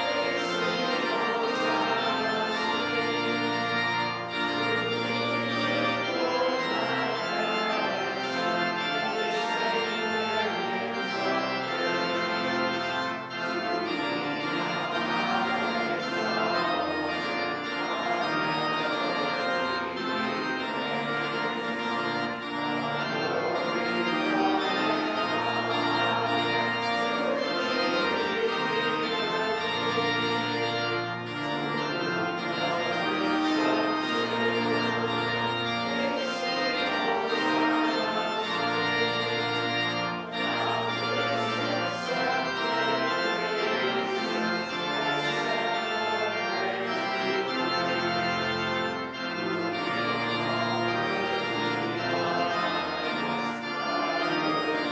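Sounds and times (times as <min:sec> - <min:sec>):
organ playing a hymn: 0:00.0 - 0:54.9.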